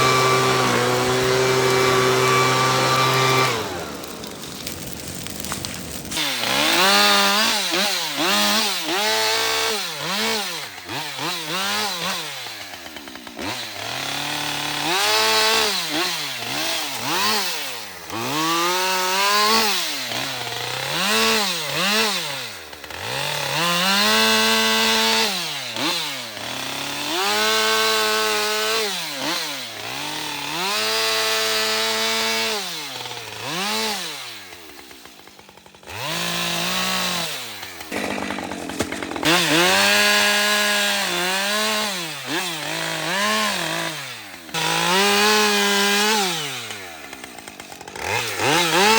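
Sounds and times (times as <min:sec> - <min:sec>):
chainsaw cutting firewood: 0:00.0 - 0:48.9.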